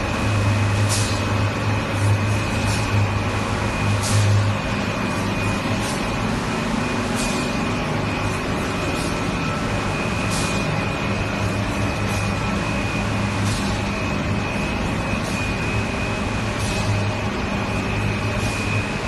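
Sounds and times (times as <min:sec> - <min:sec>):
machinery humming and whining: 0:00.0 - 0:19.0.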